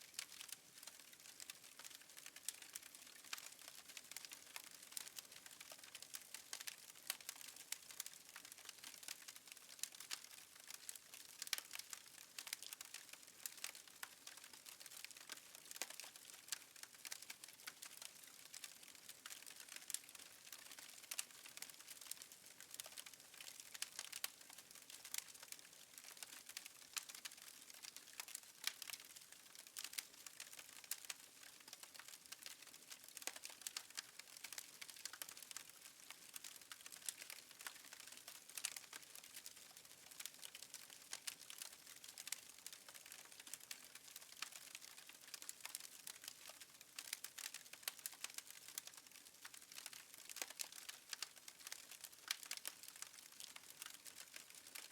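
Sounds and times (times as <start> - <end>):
soft steady hiss: 0.0 - 54.9
wood fire crackling: 0.1 - 54.9.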